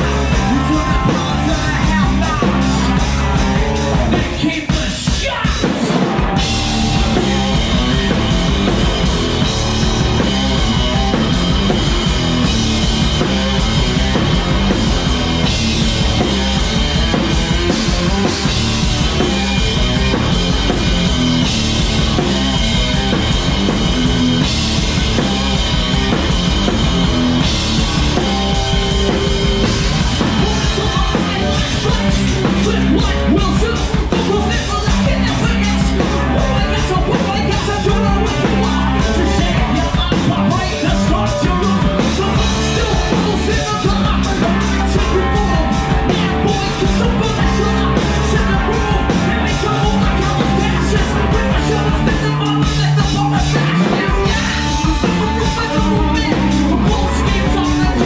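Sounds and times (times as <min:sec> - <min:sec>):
drum hits: 0:00.0 - 0:58.0
rock band playing: 0:00.0 - 0:58.0.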